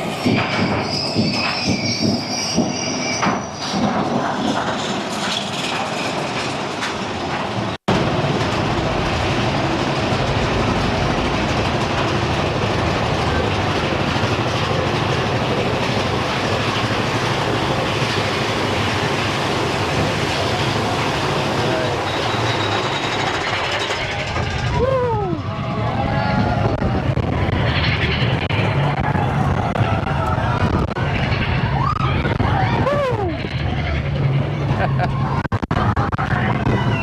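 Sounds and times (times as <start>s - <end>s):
roller coaster running noise: 0.0s - 37.0s
roller coaster wheels clattering: 0.0s - 37.0s.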